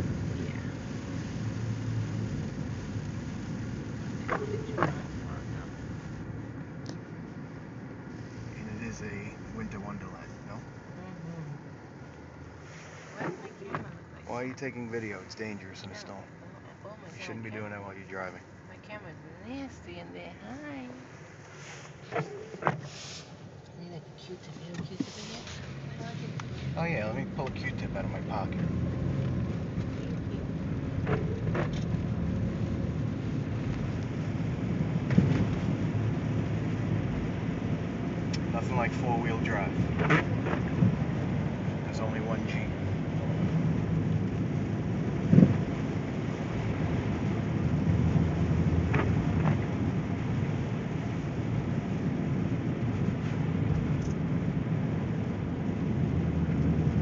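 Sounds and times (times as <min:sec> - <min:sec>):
tyres on snowy road: 0:00.0 - 0:57.0
vehicle engine rumble: 0:00.0 - 0:57.0.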